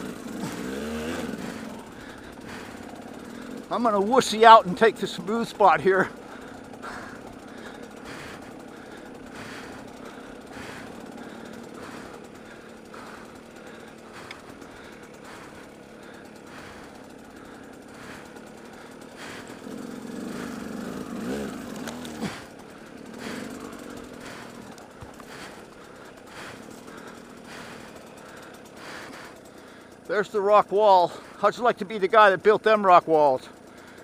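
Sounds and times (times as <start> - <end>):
motorcycle engine chugging: 0.0 - 34.0.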